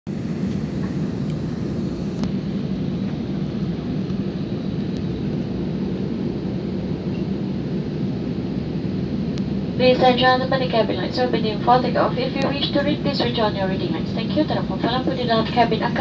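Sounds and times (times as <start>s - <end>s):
airliner cabin engine drone: 0.1s - 16.0s.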